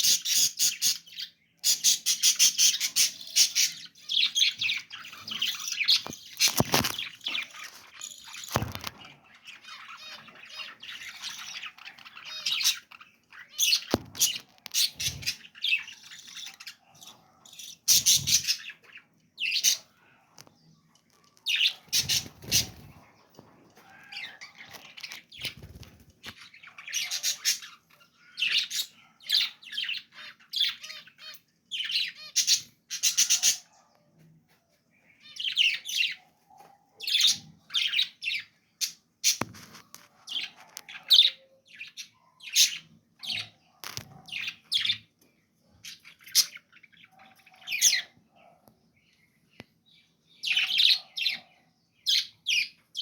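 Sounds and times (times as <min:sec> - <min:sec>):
budgerigars chirping and squawking: 0:00.0 - 0:34.0, 0:35.0 - 0:53.0.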